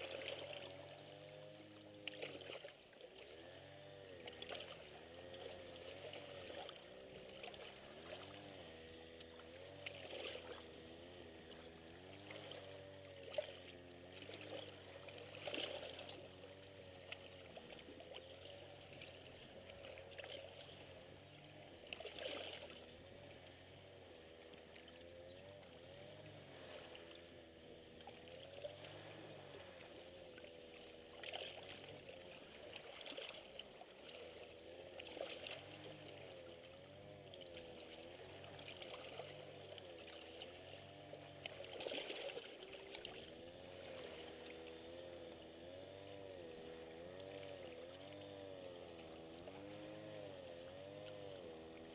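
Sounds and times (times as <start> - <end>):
faint low drone: 0.0 - 51.9
small waves lapping on rocks: 0.0 - 51.9.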